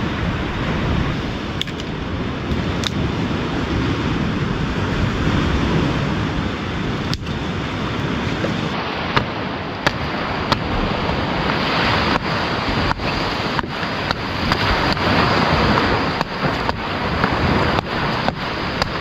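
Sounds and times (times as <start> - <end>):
surf washing on shore: 0.0 - 19.0
wind: 0.0 - 19.0.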